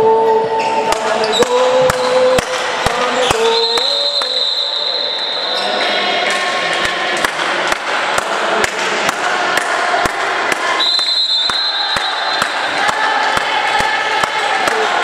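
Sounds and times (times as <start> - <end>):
ball bouncing on hall floor: 0.6 - 4.6, 5.6 - 14.9.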